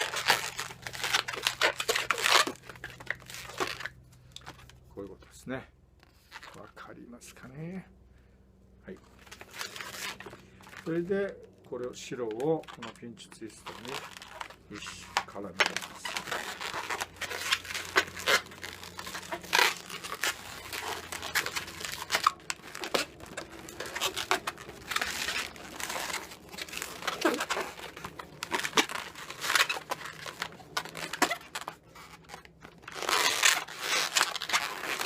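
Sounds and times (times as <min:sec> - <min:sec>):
rubber balloons squeaking: 0:00.0 - 0:04.8, 0:06.0 - 0:06.6, 0:08.9 - 0:35.0
balloon rubber rustling: 0:00.0 - 0:05.2, 0:05.9 - 0:06.8, 0:08.9 - 0:35.0.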